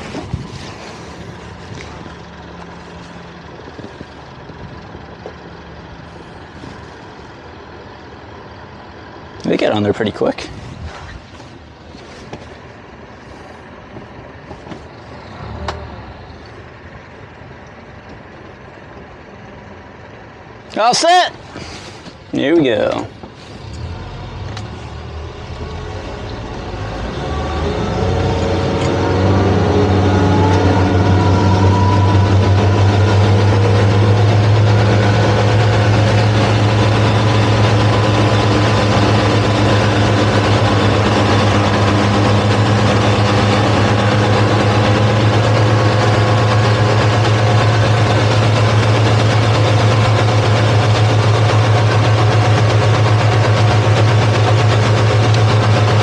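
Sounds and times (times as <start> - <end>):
outboard engines humming: 0.0 - 56.0.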